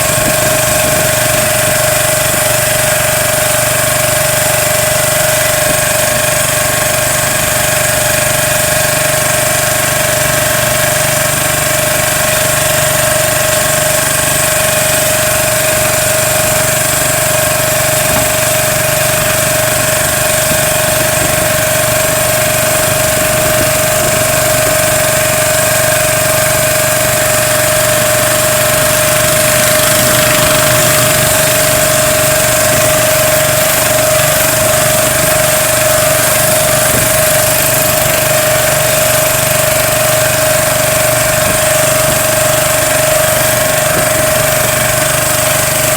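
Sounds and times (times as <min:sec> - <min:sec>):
constant droning tone: 0:00.0 - 0:45.9
engine running steadily: 0:00.0 - 0:45.9.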